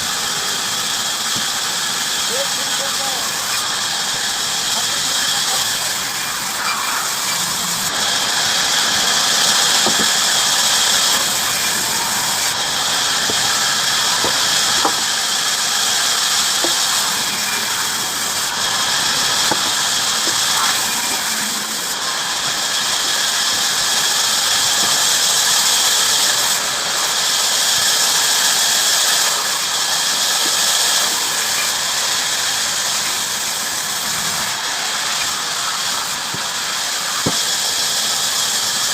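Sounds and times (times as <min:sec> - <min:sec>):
bandsaw cutting wood: 0:00.0 - 0:38.9.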